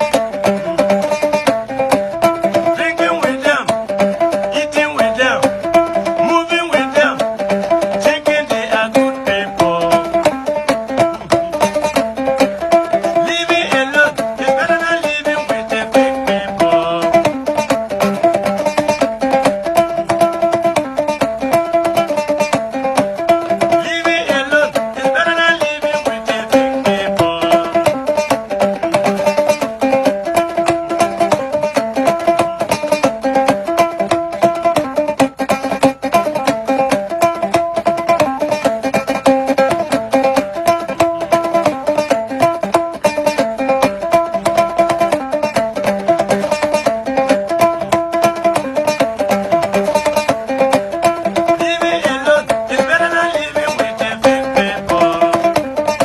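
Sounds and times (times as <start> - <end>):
plucked string instruments: 0.0 - 56.0.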